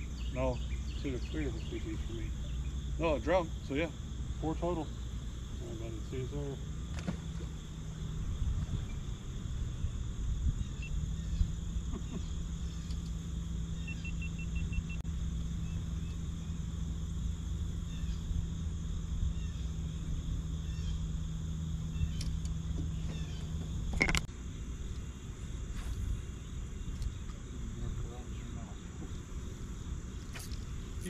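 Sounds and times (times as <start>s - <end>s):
boat motor humming: 0.0s - 31.0s.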